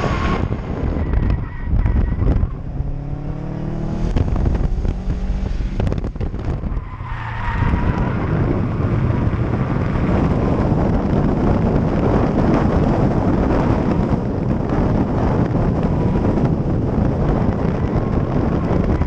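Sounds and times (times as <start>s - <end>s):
car engine revving: 0.0s - 19.0s
wind and road noise: 0.0s - 19.0s.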